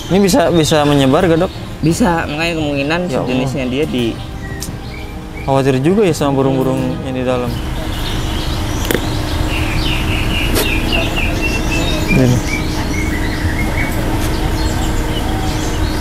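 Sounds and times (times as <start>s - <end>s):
bird chirping: 0.0s - 16.0s
outdoor background noise: 0.0s - 16.0s.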